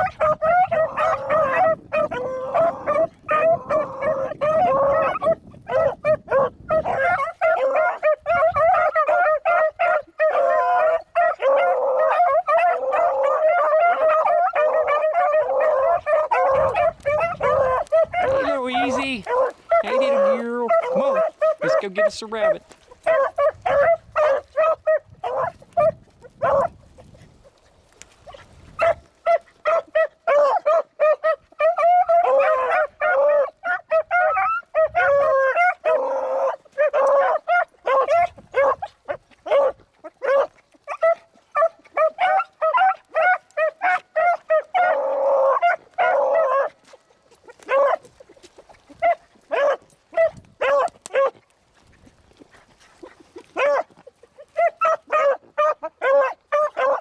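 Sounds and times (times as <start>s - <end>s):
pack of dogs yelping: 0.0s - 57.0s.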